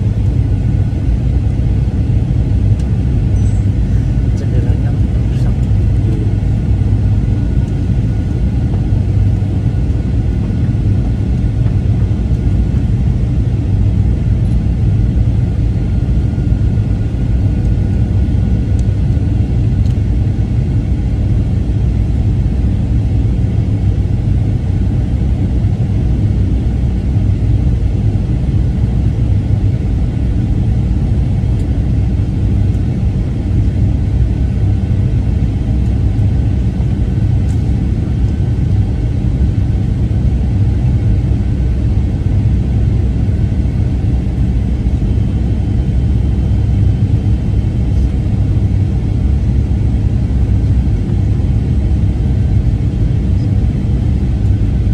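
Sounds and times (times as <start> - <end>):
aircraft cabin engine rumble: 0.0 - 54.9
faint steady whine: 0.0 - 54.9.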